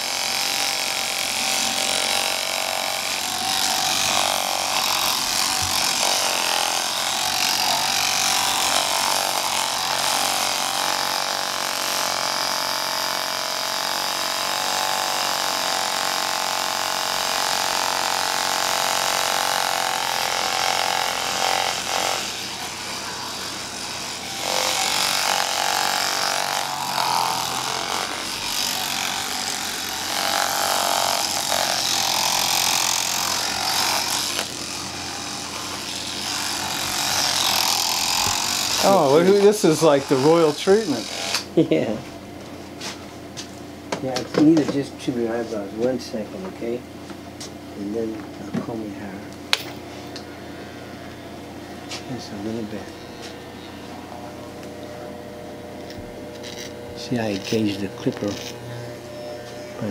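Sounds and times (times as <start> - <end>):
electric massager buzzing: 0.0 - 59.9.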